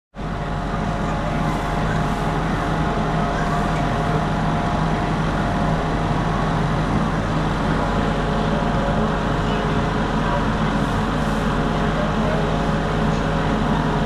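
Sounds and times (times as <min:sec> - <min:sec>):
mechanical drone with low hum: 0:00.2 - 0:14.0.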